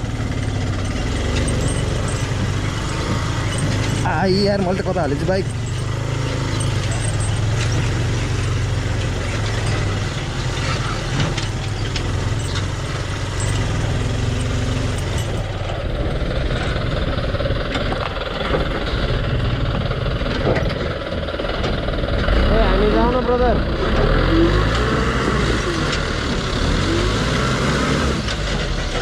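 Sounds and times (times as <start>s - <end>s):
knocks and rattles: 0.0s - 29.0s
motorcycle engine running: 0.0s - 29.0s.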